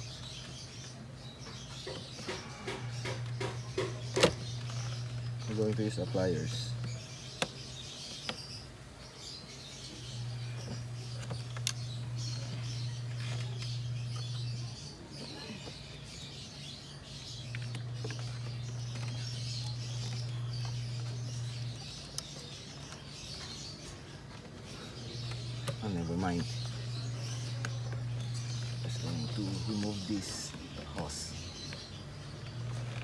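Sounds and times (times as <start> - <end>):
birds chirping: 0.0 - 33.0
low steady hum: 0.0 - 33.0.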